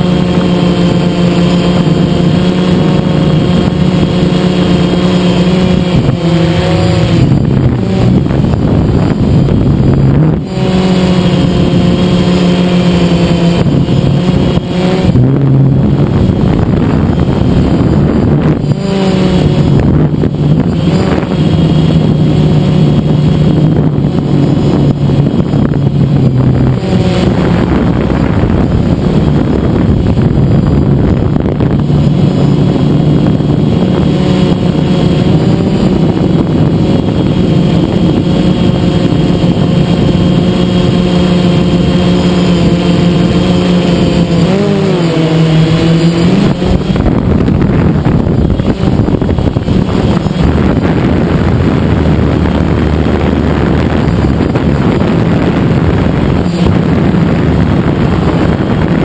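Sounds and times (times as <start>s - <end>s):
drone propellers humming: 0.0s - 59.0s.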